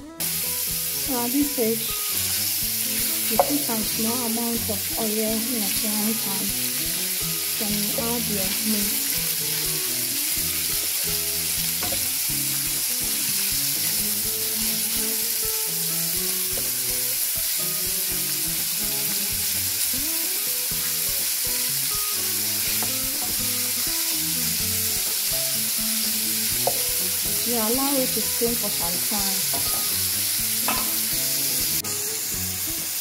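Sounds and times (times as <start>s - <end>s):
meat sizzling in oil: 0.2s - 33.0s.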